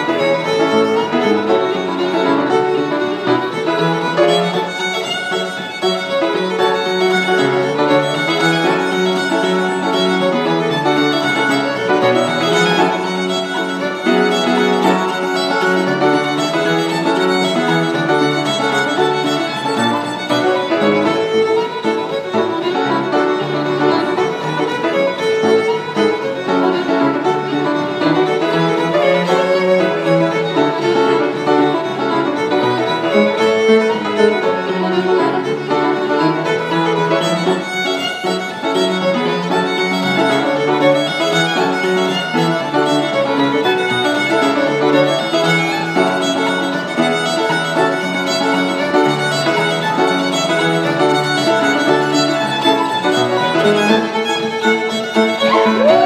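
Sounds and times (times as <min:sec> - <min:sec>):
fiddle playing a folk tune: 0:00.0 - 0:56.0
piano accompaniment: 0:00.0 - 0:56.0.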